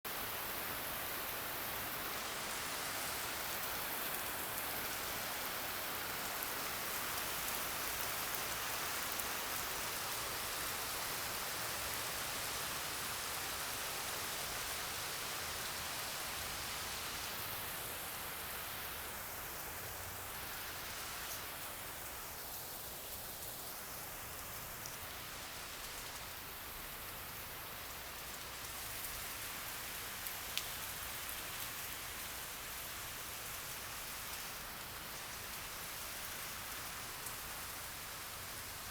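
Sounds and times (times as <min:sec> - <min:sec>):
steady rainfall: 0:00.1 - 0:38.9.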